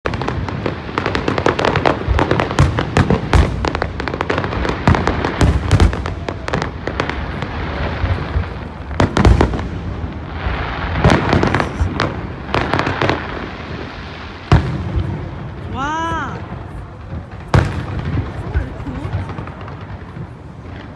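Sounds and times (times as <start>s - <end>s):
fireworks exploding: 0.0s - 20.9s.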